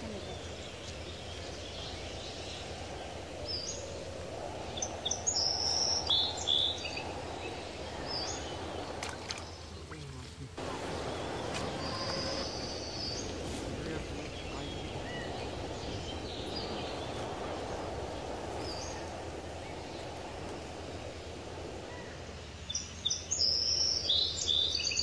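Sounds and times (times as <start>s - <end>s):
birds chirping: 0.0s - 25.0s
outdoor background hiss: 0.0s - 25.0s.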